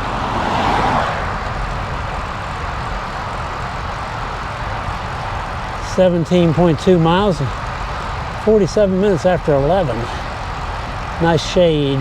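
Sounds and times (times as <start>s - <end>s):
bicycle tyre noise on road: 0.0s - 12.0s.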